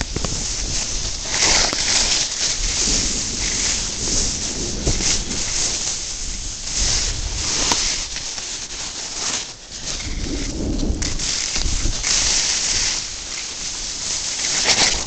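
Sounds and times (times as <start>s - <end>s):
wind on microphone: 0.0s - 8.3s, 9.8s - 15.0s
snowboard scraping over snow: 0.0s - 15.0s.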